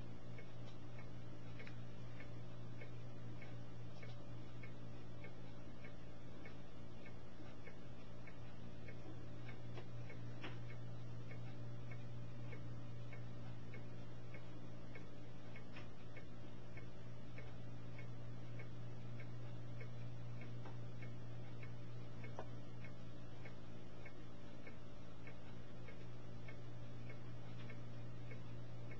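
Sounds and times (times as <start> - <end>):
faint ticking: 0.0 - 28.9
steady low hum: 0.0 - 28.9.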